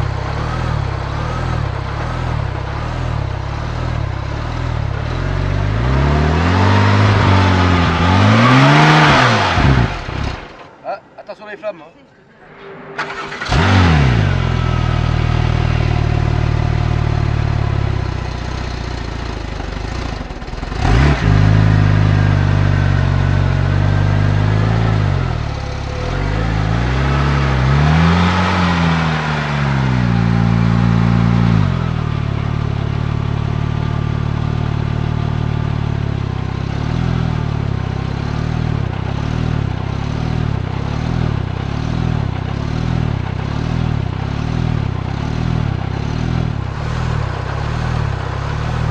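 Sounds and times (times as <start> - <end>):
car engine idling and revving: 0.0 - 10.8, 13.0 - 48.9.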